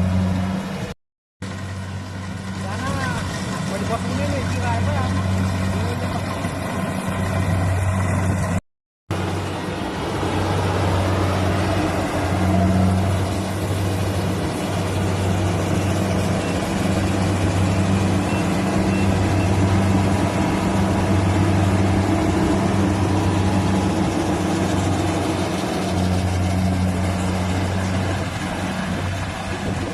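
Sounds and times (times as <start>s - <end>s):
combine harvester engine running: 0.0s - 29.9s.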